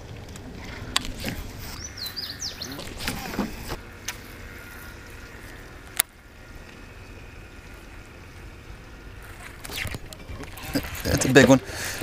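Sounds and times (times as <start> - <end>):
water around boat: 0.0 - 12.0.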